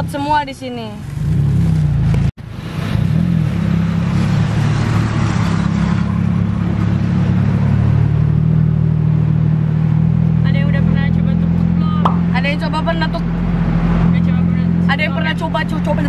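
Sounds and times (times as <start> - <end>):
auto rickshaw engine running: 0.0 - 16.0
wind and road noise: 0.0 - 16.0.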